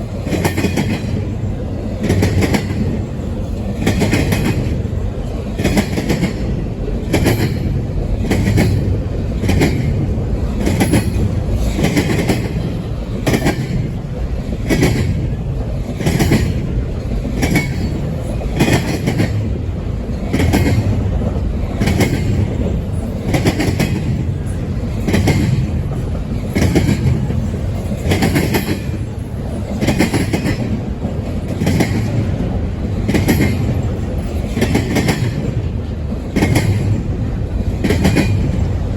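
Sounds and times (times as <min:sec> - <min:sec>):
train rumble: 0:00.0 - 0:38.9
train wheels clicking over rail joints: 0:00.0 - 0:38.9.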